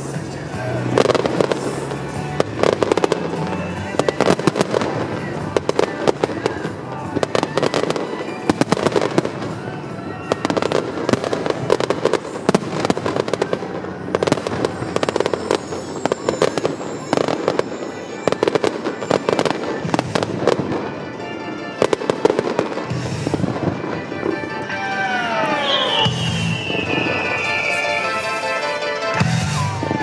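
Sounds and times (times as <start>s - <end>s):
fireworks crackling and banging: 0.0s - 30.0s
music playing: 0.0s - 30.0s.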